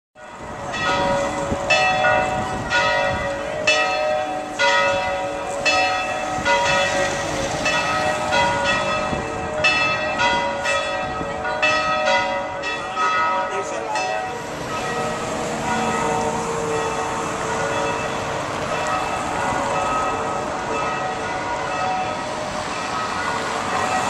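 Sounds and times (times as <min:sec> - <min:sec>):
church bells pealing: 0:00.2 - 0:24.0.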